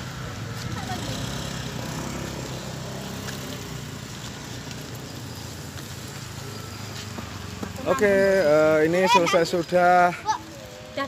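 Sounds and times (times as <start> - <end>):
street traffic hiss: 0.0 - 11.0.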